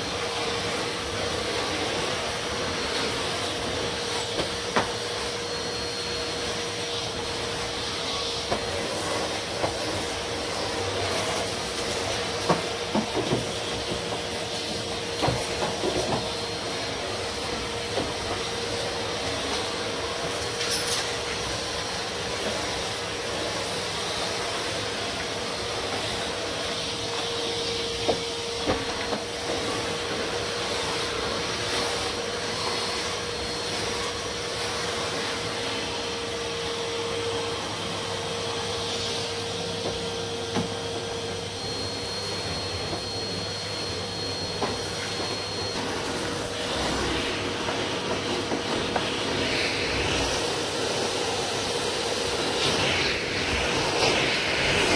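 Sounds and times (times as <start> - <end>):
floor tool pushed over carpet: 0.0 - 54.9
vacuum cleaner running: 0.0 - 54.9.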